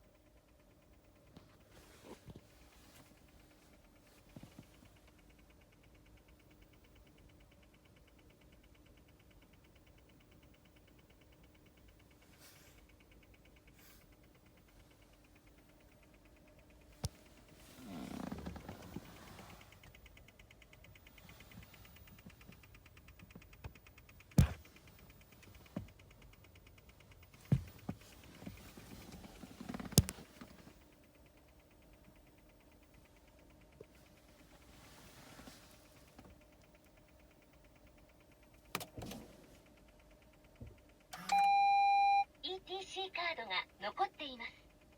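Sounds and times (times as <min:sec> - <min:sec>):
steady low hum: 0:00.0 - 0:44.9
rapid clicking from car: 0:00.2 - 0:41.2.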